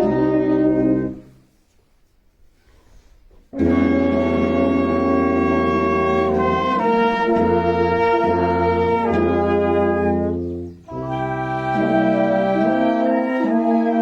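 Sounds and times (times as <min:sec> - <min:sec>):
brass band playing held chords: 0:00.0 - 0:01.4, 0:03.5 - 0:14.0.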